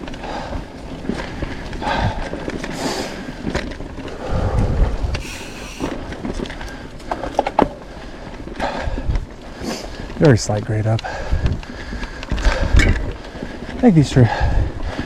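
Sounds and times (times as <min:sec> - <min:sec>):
bike clattering over bumps: 0:00.0 - 0:04.3, 0:05.0 - 0:13.8
bike tyres on dirt: 0:00.0 - 0:15.0
wind buffeting microphone: 0:00.0 - 0:15.0.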